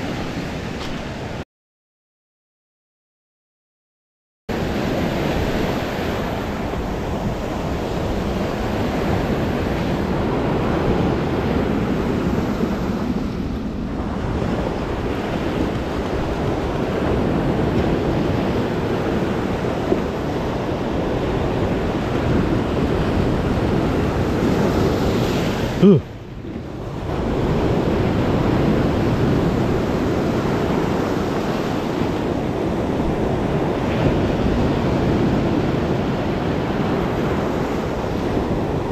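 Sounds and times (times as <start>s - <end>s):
surf washing over rocky shore: 4.5s - 38.9s
wind buffeting microphone: 4.5s - 38.9s.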